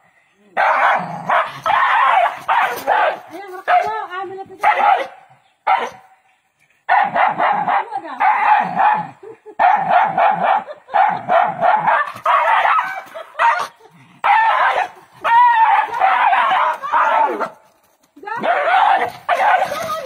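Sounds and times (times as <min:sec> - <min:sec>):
dog barking: 0:00.6 - 0:04.0, 0:04.6 - 0:06.1, 0:06.9 - 0:17.5, 0:18.4 - 0:20.0.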